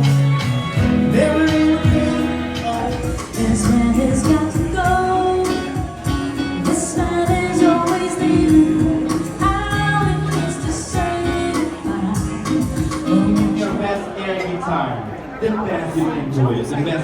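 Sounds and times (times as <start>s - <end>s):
woman singing: 0.0s - 13.7s
band with steady beat: 0.0s - 13.8s.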